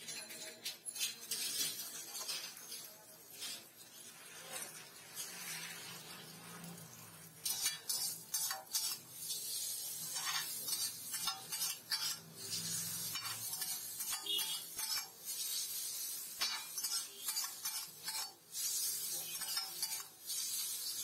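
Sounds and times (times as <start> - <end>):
metal spatulas scraping on griddle: 0.0 - 3.7, 4.4 - 6.3, 7.3 - 21.0.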